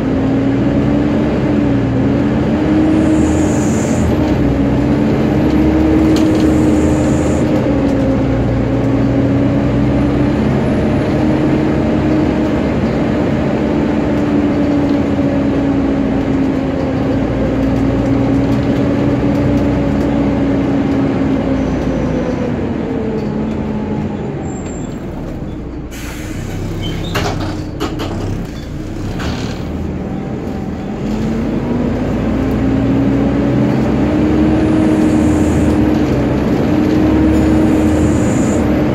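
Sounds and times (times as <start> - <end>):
engine cooling fan whining: 0.0 - 25.8, 26.7 - 38.9
diesel engine running: 0.0 - 38.9.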